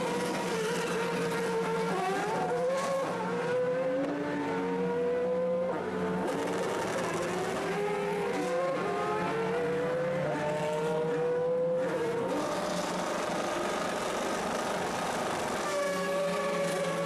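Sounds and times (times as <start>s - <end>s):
race car engines at low revs: 0.0s - 17.0s.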